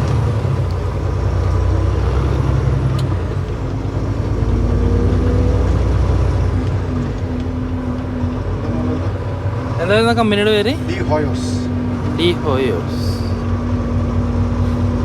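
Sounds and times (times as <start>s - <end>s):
diesel truck engine rumble: 0.0s - 15.0s
road noise: 0.0s - 15.0s.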